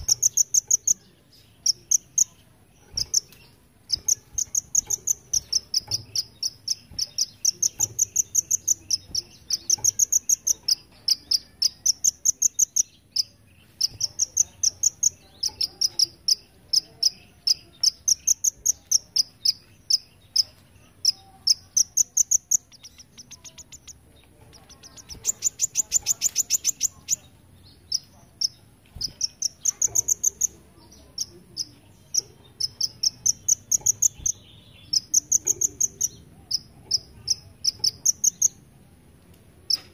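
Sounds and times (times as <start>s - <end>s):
sunbird high thin chirps: 0.0s - 38.6s.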